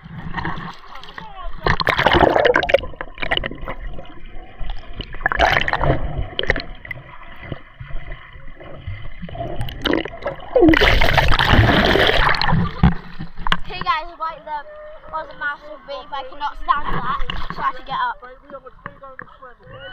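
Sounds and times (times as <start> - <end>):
seawater splashing and gurgling: 0.0 - 19.9.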